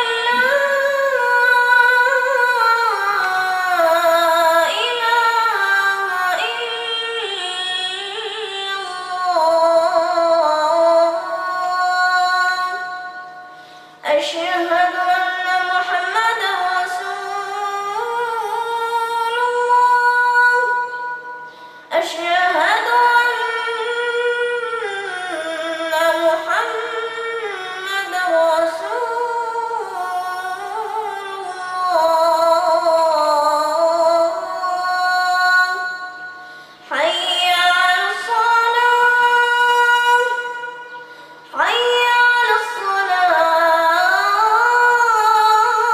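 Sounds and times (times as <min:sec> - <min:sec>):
boy reciting melodically: 0:00.0 - 0:45.9.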